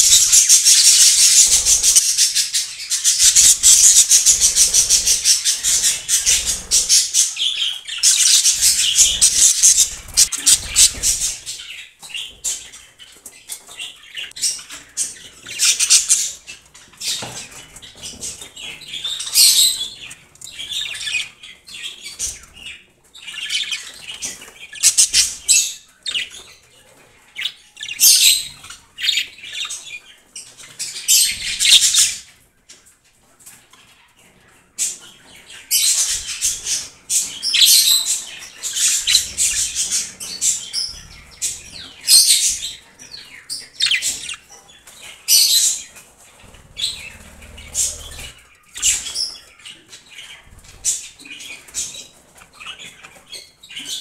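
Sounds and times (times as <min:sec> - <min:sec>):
budgerigars chirping and squawking: 0:00.0 - 0:32.4, 0:33.5 - 0:54.0.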